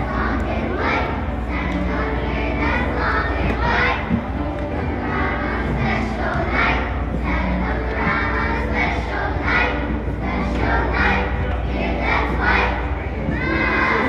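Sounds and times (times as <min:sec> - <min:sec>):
audience murmur: 0:00.0 - 0:14.0
children singing together: 0:00.0 - 0:14.0.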